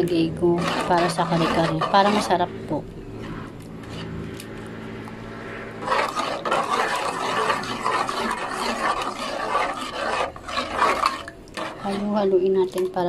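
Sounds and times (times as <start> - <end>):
spatula scraping metal pot: 0.0 - 4.2, 5.8 - 13.0
low steady hum: 0.0 - 13.0.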